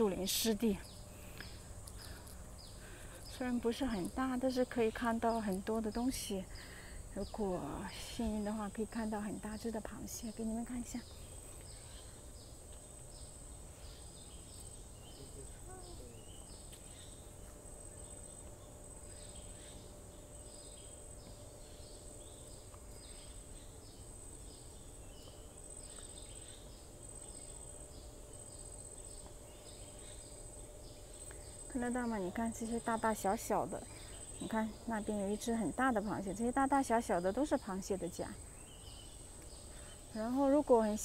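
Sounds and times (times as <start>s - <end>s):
insect chirping: 0.0s - 41.0s.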